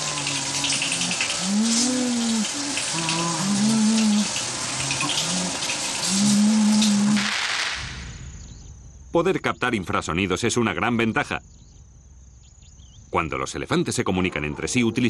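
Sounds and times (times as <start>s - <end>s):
steady tape hiss: 0.0s - 15.0s.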